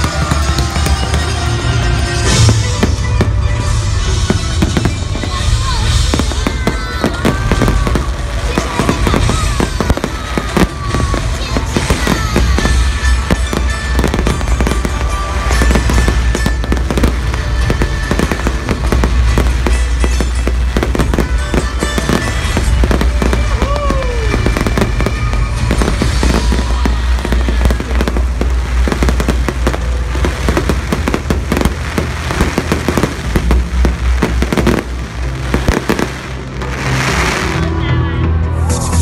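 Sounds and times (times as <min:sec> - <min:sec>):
fireworks banging and crackling: 0:00.0 - 0:38.0
loud music with heavy bass: 0:00.0 - 0:39.0.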